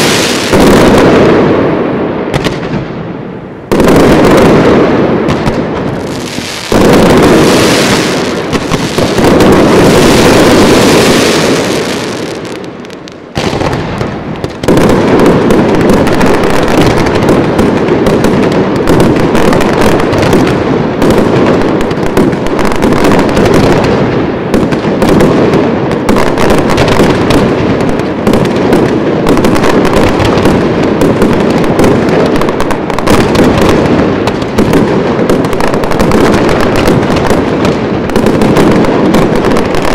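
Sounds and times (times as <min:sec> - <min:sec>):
fireworks blasts: 0:00.0 - 0:39.9
fireworks crackling bangs: 0:00.0 - 0:39.9.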